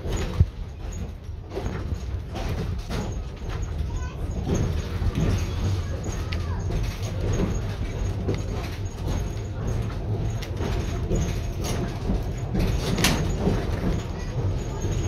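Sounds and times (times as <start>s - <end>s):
sharp clicks and knocks: 0.0s - 15.0s
streetcar wheels rumbling: 0.0s - 15.0s.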